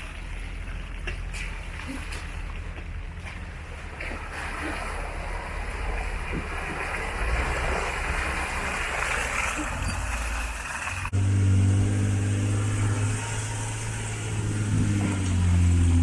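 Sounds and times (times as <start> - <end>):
splashing of tires in mud: 0.0 - 16.0
vehicle engine running low: 0.0 - 16.0.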